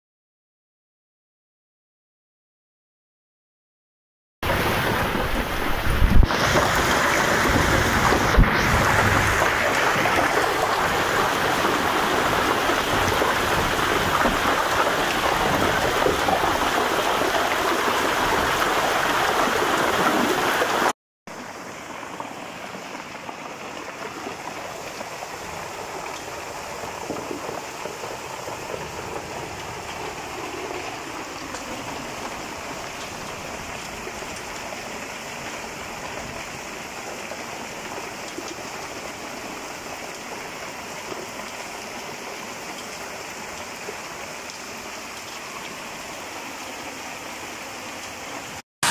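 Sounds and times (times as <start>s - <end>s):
floodwater rushing: 4.4s - 48.9s
heavy rain: 4.4s - 48.9s.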